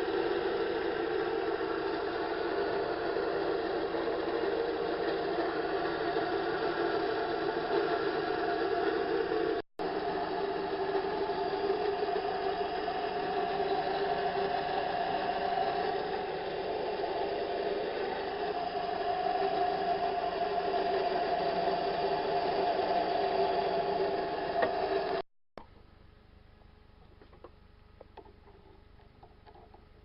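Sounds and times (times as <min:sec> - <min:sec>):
metal lathe running: 0:00.0 - 0:25.2.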